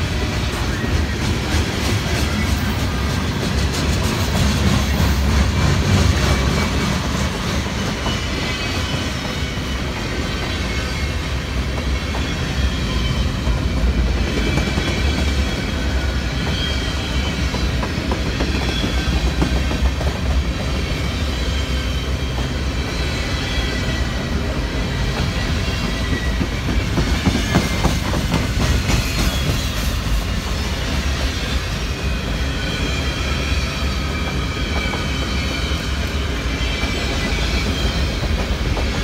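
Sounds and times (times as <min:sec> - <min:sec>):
train wheel and rail rumble: 0:00.0 - 0:39.0.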